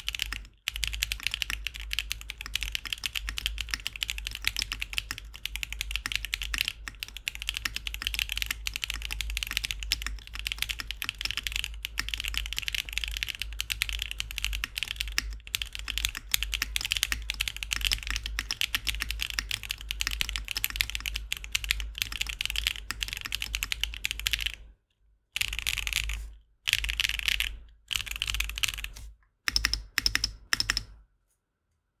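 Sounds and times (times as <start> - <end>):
mechanical keyboard typing: 0.0 - 24.7, 25.4 - 31.0.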